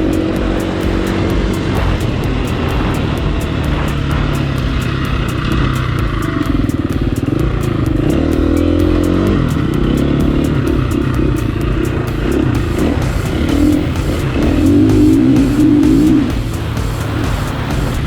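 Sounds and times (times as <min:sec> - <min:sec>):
dirt bike engine revving: 0:00.0 - 0:18.0
music with steady beat: 0:00.0 - 0:18.0.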